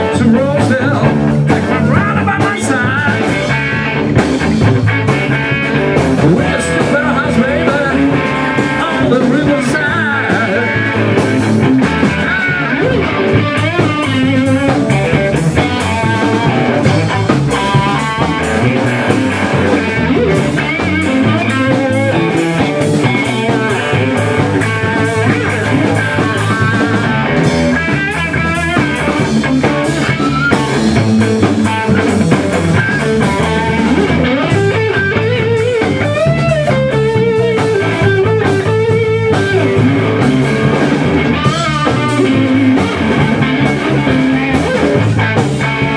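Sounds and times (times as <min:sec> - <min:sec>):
bass guitar: 0:00.0 - 0:45.9
electric guitar bending notes: 0:00.0 - 0:45.9
steady drum beat: 0:00.0 - 0:45.9.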